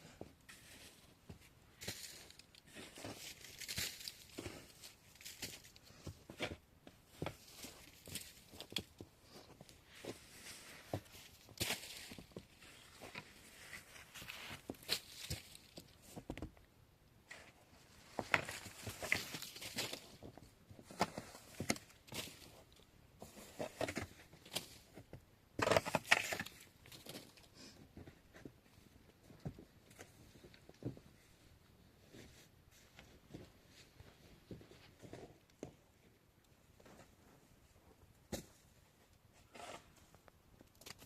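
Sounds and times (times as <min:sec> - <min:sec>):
rustling and crinkling: 0:00.0 - 0:41.0.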